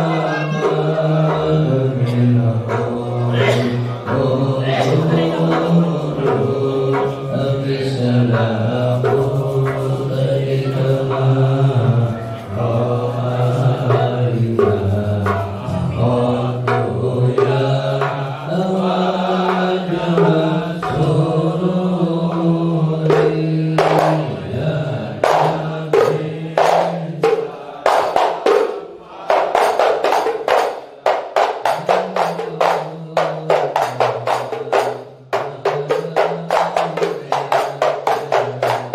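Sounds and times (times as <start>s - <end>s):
frame drums: 0.0s - 38.9s
men chanting in unison: 0.0s - 38.9s.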